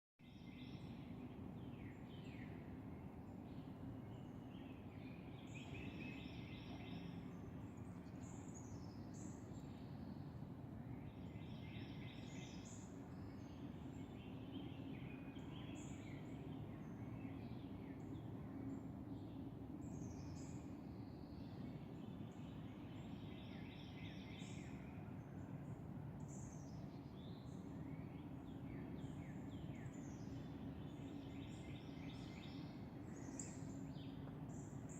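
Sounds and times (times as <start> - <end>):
low background hum: 0.2 - 34.9
wild birds chirping: 0.3 - 34.9.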